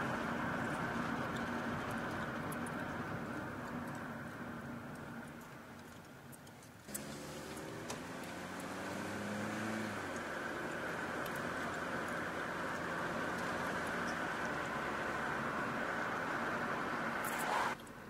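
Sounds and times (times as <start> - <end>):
car engine accelerating: 0.0 - 5.5, 6.9 - 17.8
road noise inside car: 0.0 - 18.0.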